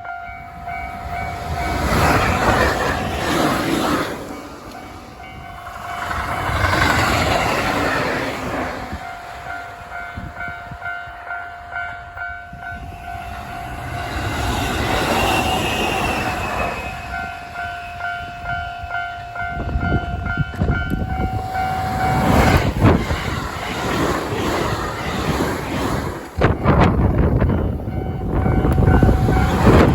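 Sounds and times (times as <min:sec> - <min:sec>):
train rumble: 0:00.0 - 0:29.9.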